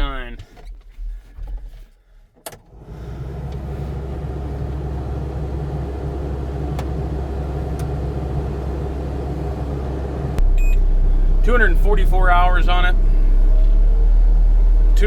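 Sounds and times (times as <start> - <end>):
diesel engine idling: 2.7 - 15.0.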